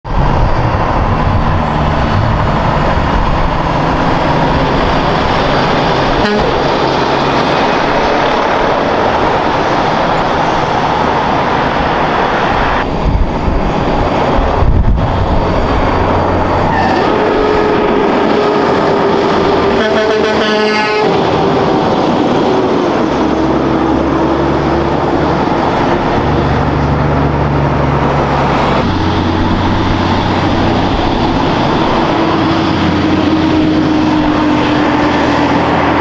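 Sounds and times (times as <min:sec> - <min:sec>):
diesel truck engines running: 0:00.0 - 0:36.0.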